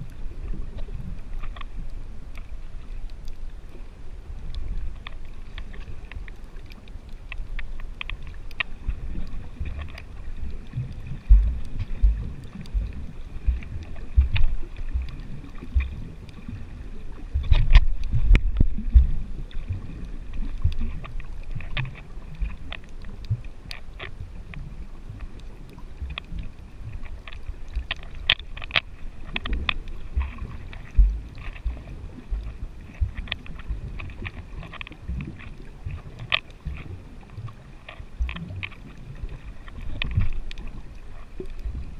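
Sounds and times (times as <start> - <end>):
underwater rumbling and thumping: 0.0 - 3.7, 4.3 - 41.9.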